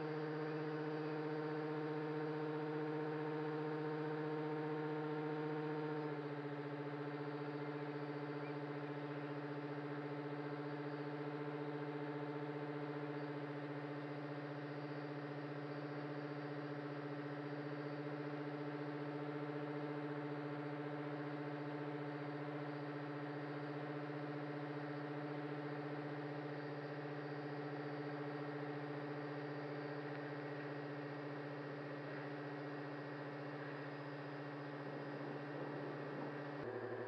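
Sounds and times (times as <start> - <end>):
electric motor and propeller hum: 0.0 - 37.0.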